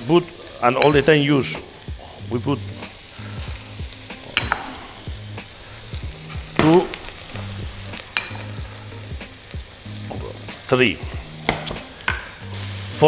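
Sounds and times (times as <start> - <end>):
metal pots and utensils clinking: 0.0 - 1.9, 2.8 - 9.2, 10.1 - 12.6
vegetables sizzling in pot: 0.0 - 13.0.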